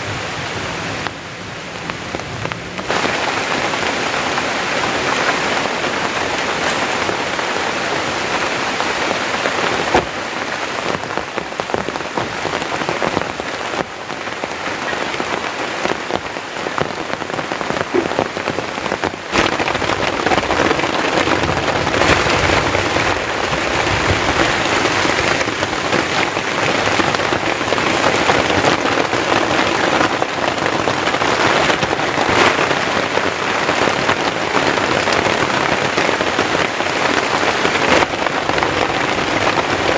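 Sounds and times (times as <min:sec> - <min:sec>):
heavy rain: 0:00.0 - 0:39.9
sharp raindrop hits: 0:01.0 - 0:39.9.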